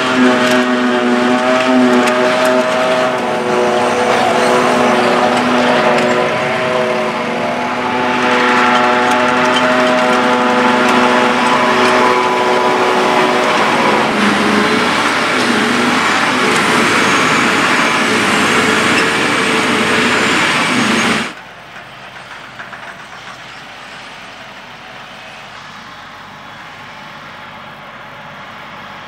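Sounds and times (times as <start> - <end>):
distant tractor engine: 0.0 - 29.0
forage harvester engine and chopper: 0.0 - 29.0
steady whine: 0.0 - 29.0.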